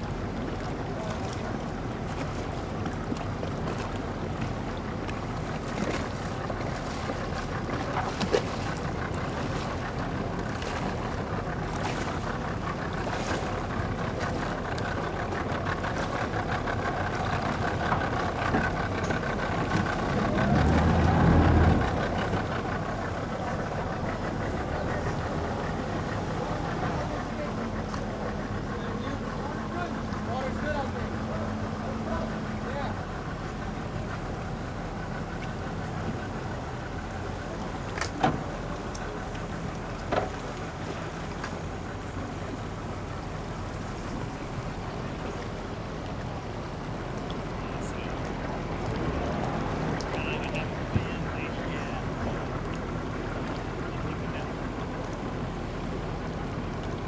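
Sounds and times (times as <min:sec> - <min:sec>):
boat motor revving: 0:00.0 - 0:57.0
outboard boat motors idling: 0:00.0 - 0:57.0.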